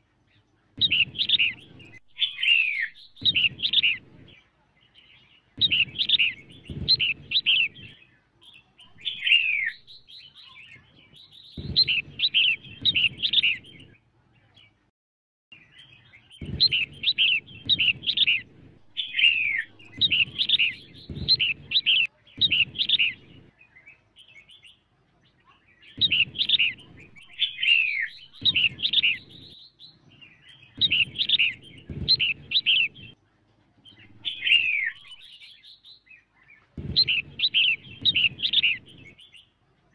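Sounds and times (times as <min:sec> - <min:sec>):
bird chirping: 0:00.0 - 0:14.8, 0:15.5 - 0:33.2, 0:33.8 - 0:39.9.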